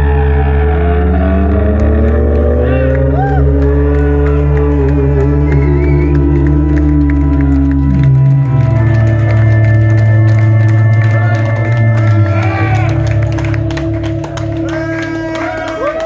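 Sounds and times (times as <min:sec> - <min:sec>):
steady bass drone: 0:00.0 - 0:16.0.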